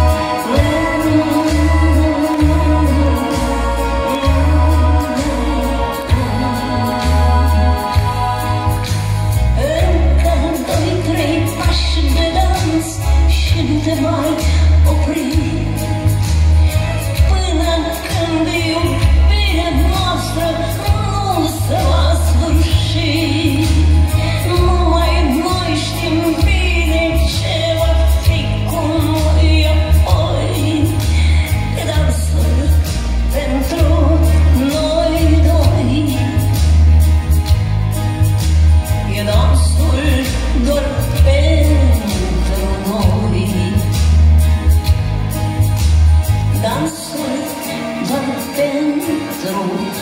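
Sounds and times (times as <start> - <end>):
band playing: 0.0 - 50.0
woman singing pop song: 0.0 - 50.0.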